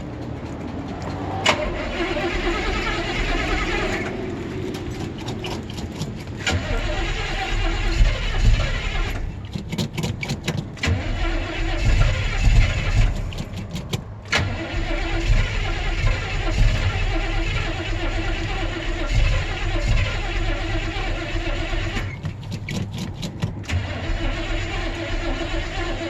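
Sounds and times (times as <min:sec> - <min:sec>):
engine running roughly: 0:00.0 - 0:26.0
starter motor cranking: 0:01.4 - 0:26.0.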